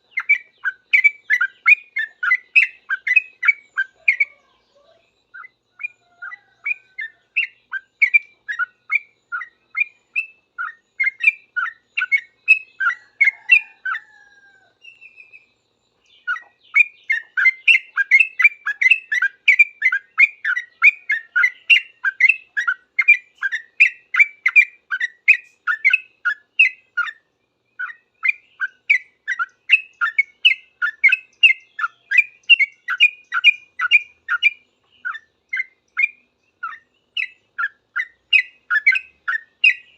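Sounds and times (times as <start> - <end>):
bulbul chirpy song: 0.0 - 39.9.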